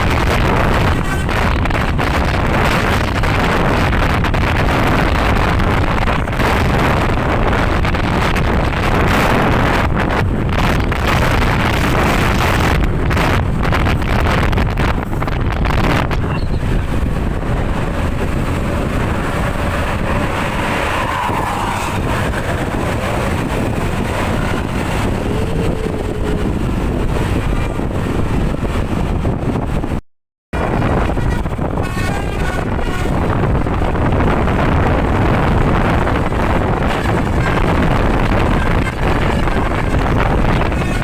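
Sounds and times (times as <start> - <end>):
moving vehicle rumble: 0.0 - 30.0, 30.6 - 41.0
wind buffeting microphone: 0.0 - 41.0.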